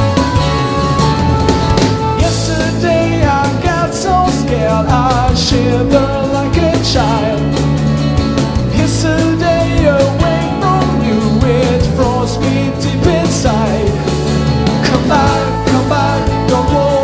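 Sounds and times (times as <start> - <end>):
person singing: 0.0 - 7.6, 8.7 - 17.0
rock band playing: 0.0 - 17.0.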